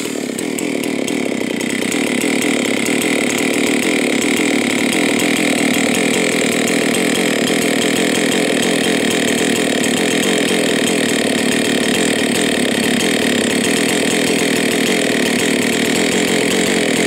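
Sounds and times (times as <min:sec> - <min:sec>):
chainsaw engine idling: 0:00.0 - 0:17.0.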